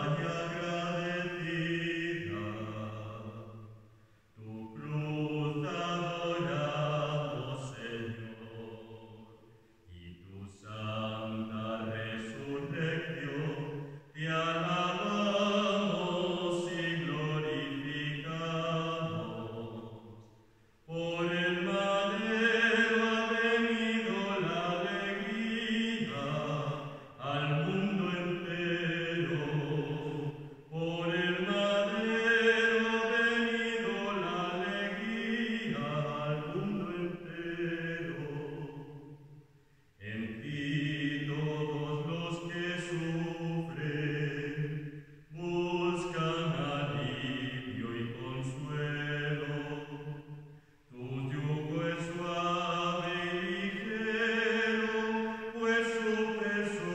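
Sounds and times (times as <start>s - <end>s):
liturgical chant singing: 0.0s - 3.8s, 4.4s - 39.4s, 40.0s - 56.9s.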